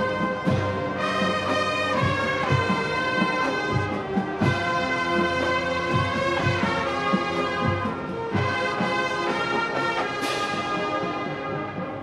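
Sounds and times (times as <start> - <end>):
bass drum and percussion strikes: 0.0 - 12.0
brass chords: 0.0 - 12.0.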